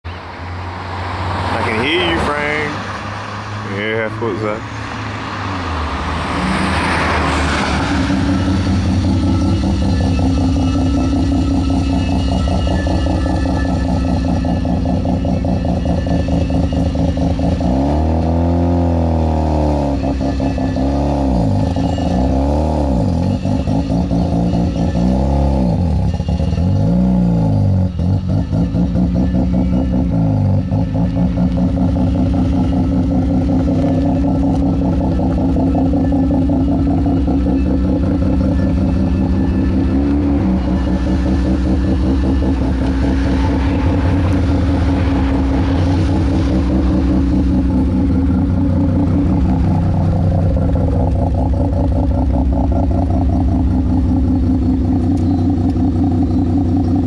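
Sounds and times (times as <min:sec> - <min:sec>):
rotary engine idling and revving: 0:00.0 - 0:57.0.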